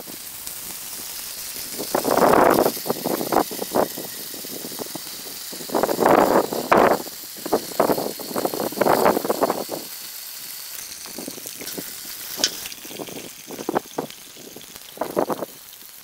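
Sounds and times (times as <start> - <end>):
hose water splashing into metal can: 0.0 - 16.0.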